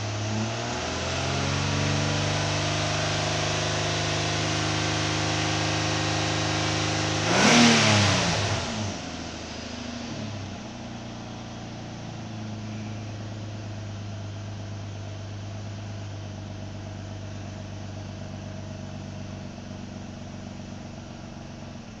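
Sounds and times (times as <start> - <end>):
car engine idling: 1.4 - 22.0.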